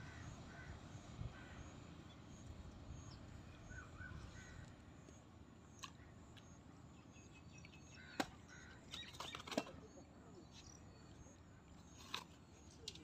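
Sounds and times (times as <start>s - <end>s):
distant bird calls: 0.0s - 12.7s.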